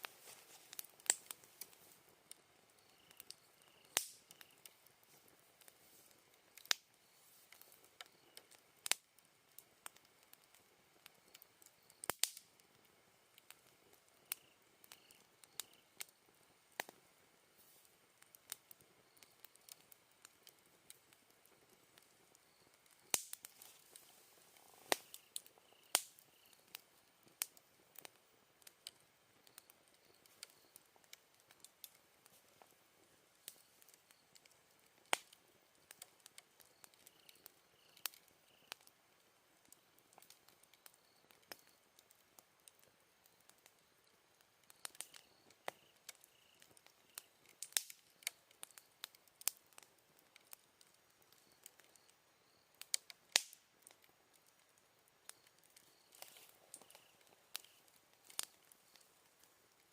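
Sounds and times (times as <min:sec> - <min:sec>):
insects chirping: 0:00.0 - 0:12.2, 0:13.0 - 0:53.2, 0:54.3 - 0:59.9
campfire crackling and popping: 0:00.0 - 0:59.9.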